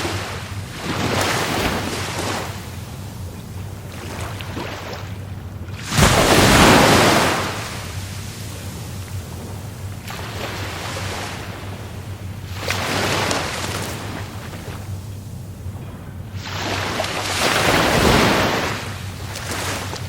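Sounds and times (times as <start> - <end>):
waves crashing: 0.0 - 20.0.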